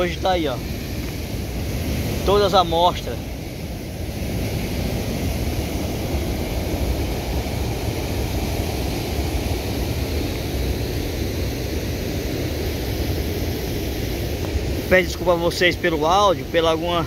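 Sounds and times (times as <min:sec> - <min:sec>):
water rushing over weir: 0:00.0 - 0:17.0
wind rumble on microphone: 0:00.0 - 0:17.0.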